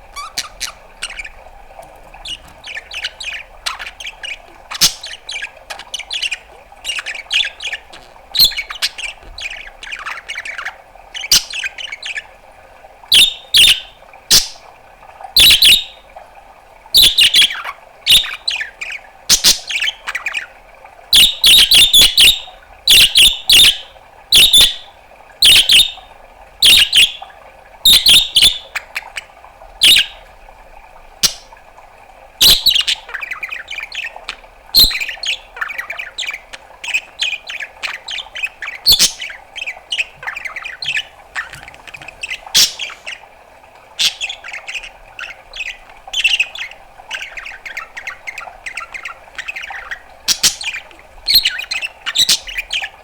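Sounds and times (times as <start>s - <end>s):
faint steady hum: 0.0s - 53.0s
budgerigar chirping: 0.2s - 1.4s, 2.2s - 12.2s, 13.1s - 14.6s, 15.4s - 16.0s, 17.0s - 20.5s, 21.2s - 24.8s, 25.4s - 26.0s, 26.6s - 27.2s, 27.9s - 29.1s, 29.8s - 30.2s, 31.2s - 31.5s, 32.4s - 43.2s, 44.0s - 52.9s.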